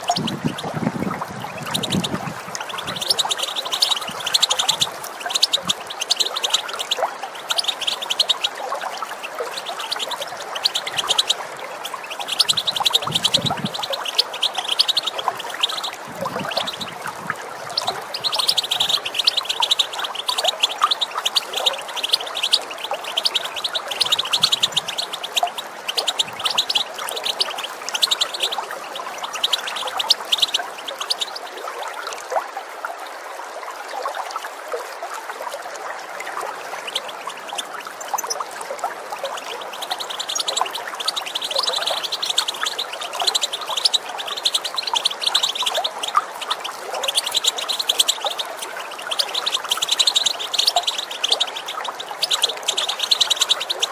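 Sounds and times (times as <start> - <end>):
goldfinches twittering: 0.0 - 31.6, 39.2 - 53.9
running water: 0.0 - 53.9.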